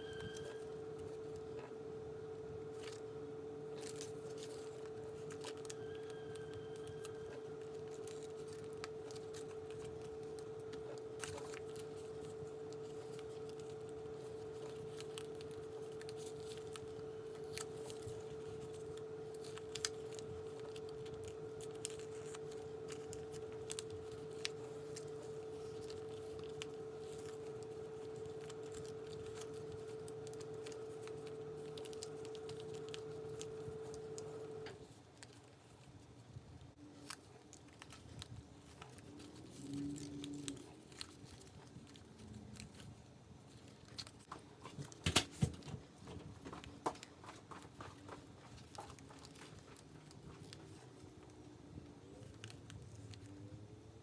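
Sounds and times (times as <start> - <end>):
steady electrical hum: 0.0 - 54.0
vinyl clicks and crinkles: 0.0 - 54.0.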